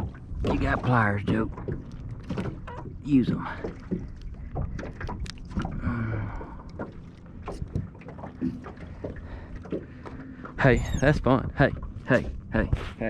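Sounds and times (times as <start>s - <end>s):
low steady hum: 0.0s - 12.6s.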